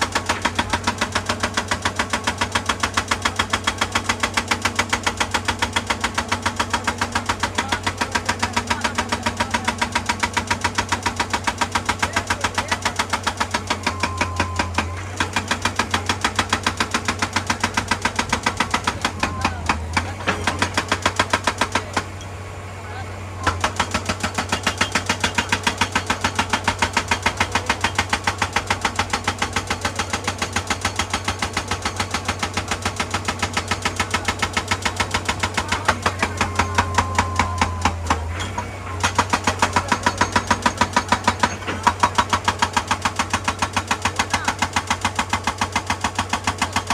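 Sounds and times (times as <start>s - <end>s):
hydraulic breaker hammering rock: 0.0s - 22.5s, 23.2s - 46.9s
excavator engine hum: 0.0s - 46.9s.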